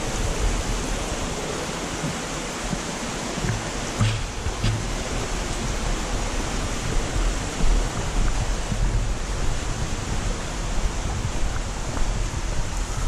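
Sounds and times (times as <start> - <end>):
rushing waterfall and stream: 0.0 - 13.0.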